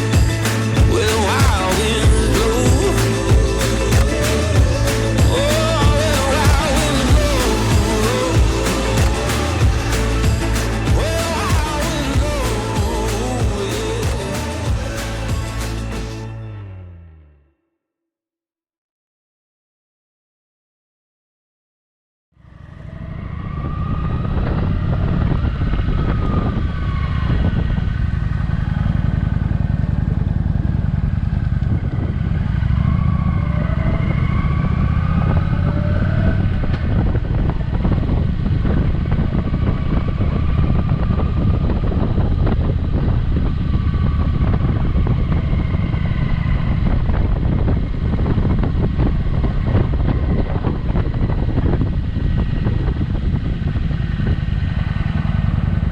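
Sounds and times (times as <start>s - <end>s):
motorcycle engine rumble: 0.0s - 17.2s, 22.4s - 55.9s.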